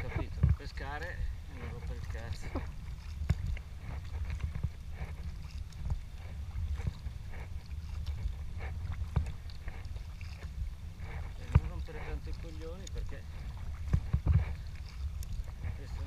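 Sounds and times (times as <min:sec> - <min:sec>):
paddle splashing in water: 0:00.0 - 0:16.0
steady low rumble: 0:00.0 - 0:16.0.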